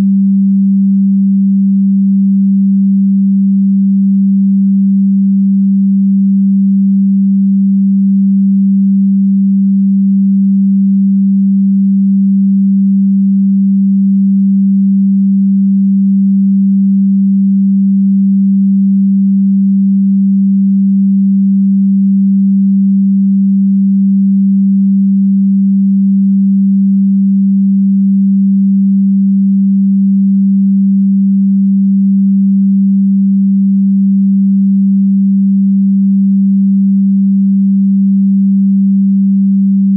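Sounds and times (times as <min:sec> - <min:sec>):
low synthesized sine tone: 0:00.0 - 0:39.9.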